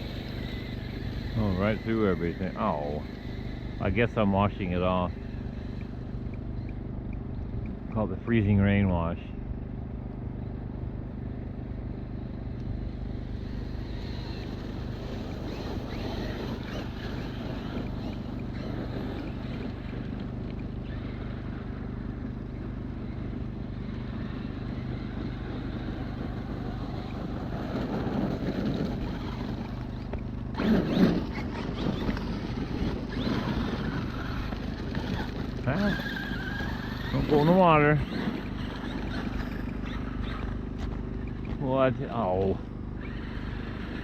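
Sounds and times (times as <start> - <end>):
electric rc truck running: 0.0 - 7.8, 11.4 - 44.0
steady low hum: 0.0 - 44.0.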